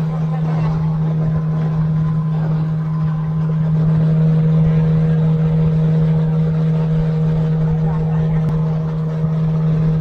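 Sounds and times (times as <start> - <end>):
outboard motor droning: 0.0 - 10.0
water rushing along hull: 0.0 - 10.0.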